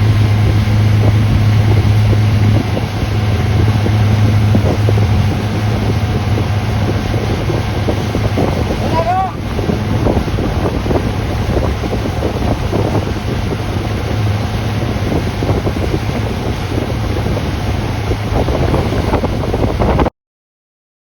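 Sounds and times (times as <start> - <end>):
boat motor droning: 0.0 - 20.1
wind buffeting microphone: 0.0 - 20.1.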